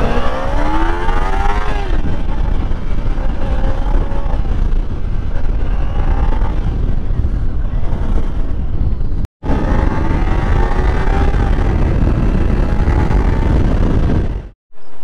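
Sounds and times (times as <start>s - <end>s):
motorcycle engine revving: 0.0s - 14.6s
wind rumble on microphone: 0.0s - 15.0s.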